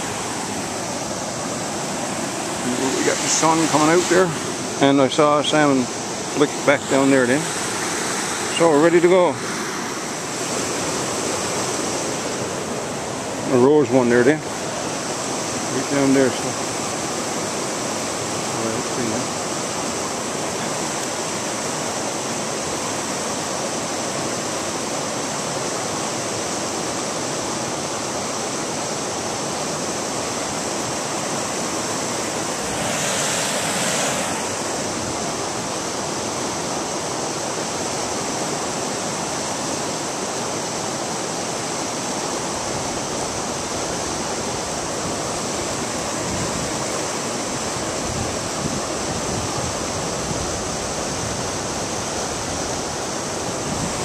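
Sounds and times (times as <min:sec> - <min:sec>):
brook water running over rocks: 0:00.0 - 0:54.0.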